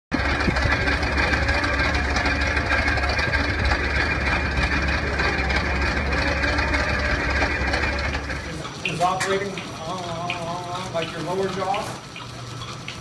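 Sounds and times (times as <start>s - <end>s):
machinery drone and rumble: 0.1s - 11.8s.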